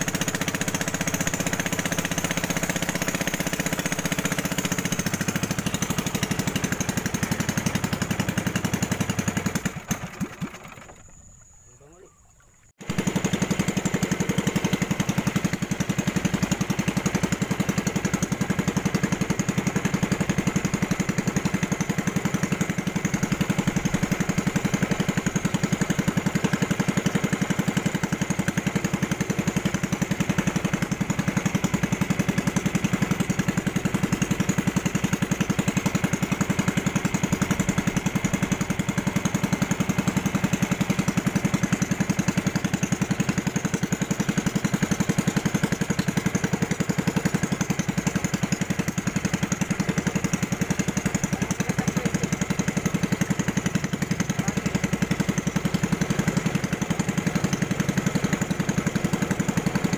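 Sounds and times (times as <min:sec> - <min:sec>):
small boat engine puttering: 0:00.0 - 0:59.9.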